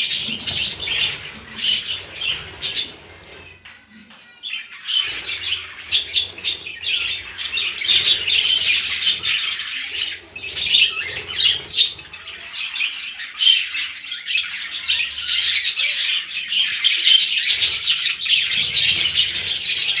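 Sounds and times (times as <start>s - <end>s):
budgerigars chattering: 0.0s - 3.2s, 4.9s - 20.0s.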